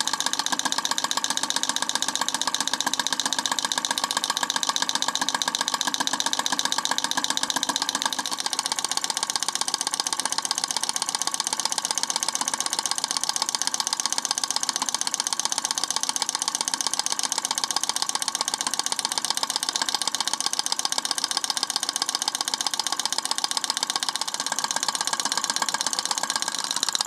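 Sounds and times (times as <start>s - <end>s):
model electric engine clattering: 0.0s - 27.0s.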